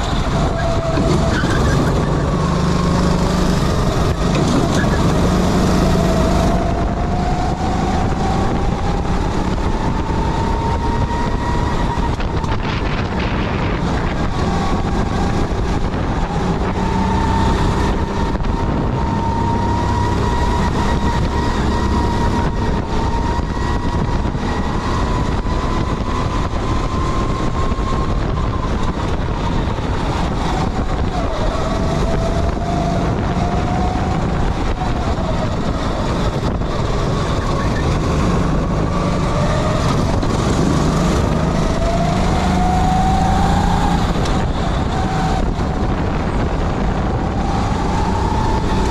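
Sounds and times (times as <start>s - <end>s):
kart engine revving: 0.0s - 48.9s.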